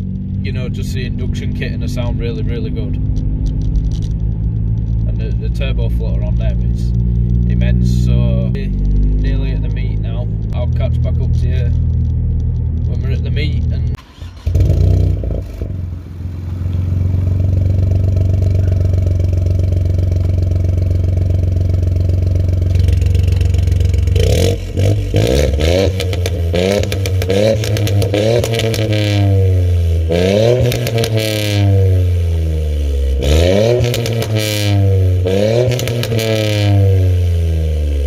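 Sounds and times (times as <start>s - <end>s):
car engine idling and revving: 0.0s - 38.0s
exhaust crackles: 0.0s - 38.0s.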